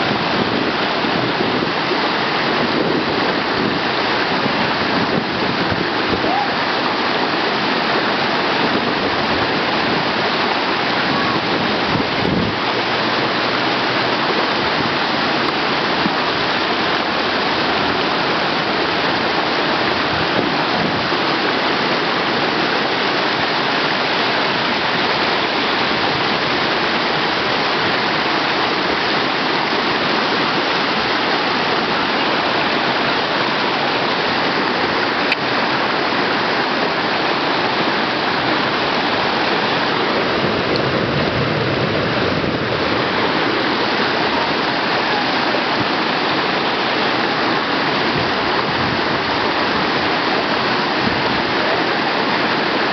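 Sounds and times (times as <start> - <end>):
whitewater rushing: 0.0 - 52.9.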